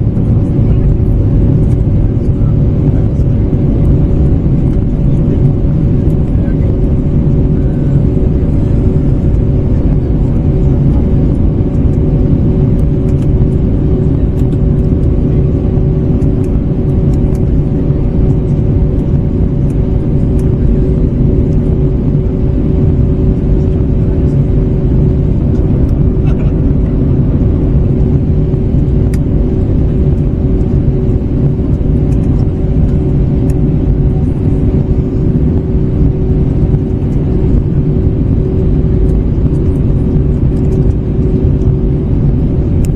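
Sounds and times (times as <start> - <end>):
aircraft cabin engine rumble: 0.0 - 42.9
steady two-note hum: 0.0 - 42.9.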